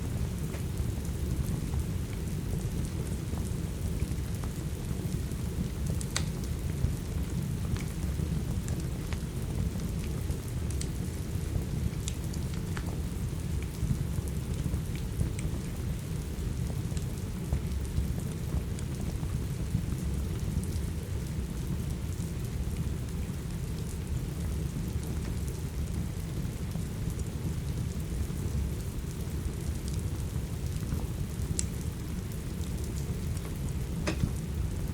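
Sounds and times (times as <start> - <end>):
steady rain hiss: 0.0 - 34.9
wood fire crackling: 0.0 - 34.9.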